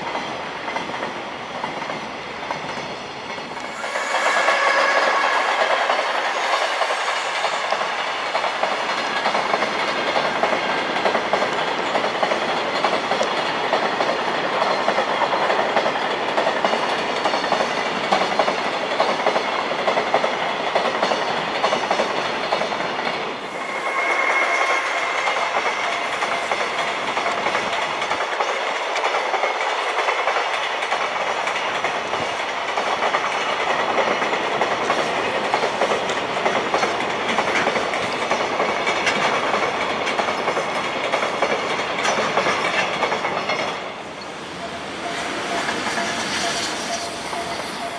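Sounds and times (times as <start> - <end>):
clickety-clack over rail joints: 0.0 - 47.9
train wheels on rails: 0.0 - 47.9.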